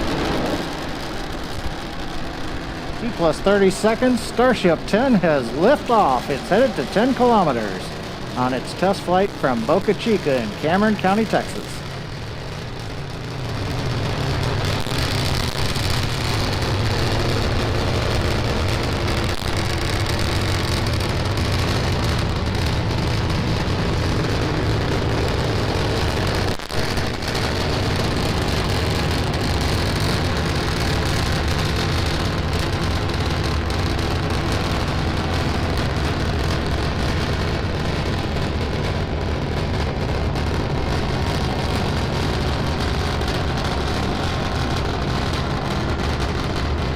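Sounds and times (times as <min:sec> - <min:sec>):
rocket engines rumbling: 0:00.0 - 0:46.9.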